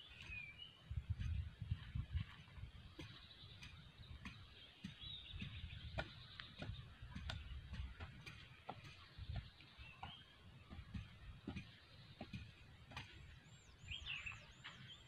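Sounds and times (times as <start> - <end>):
wind rumble on microphone: 0.0 - 14.8
bird chirp: 0.0 - 15.0.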